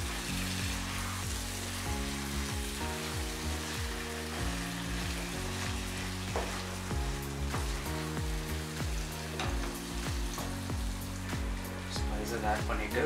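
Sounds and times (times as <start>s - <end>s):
background music with a beat: 0.0s - 13.0s
meat sizzling in a pan: 0.0s - 13.0s.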